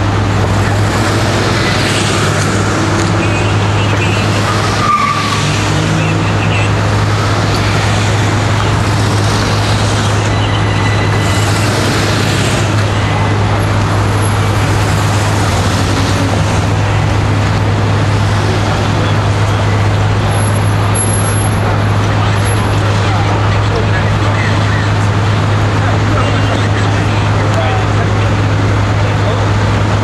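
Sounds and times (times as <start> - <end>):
street noise: 0.0 - 30.0.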